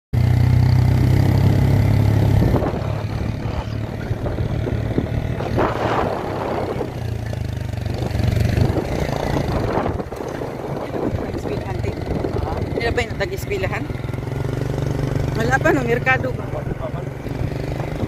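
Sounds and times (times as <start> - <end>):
vehicle engine running: 0.1 - 18.0
road noise: 0.2 - 18.0.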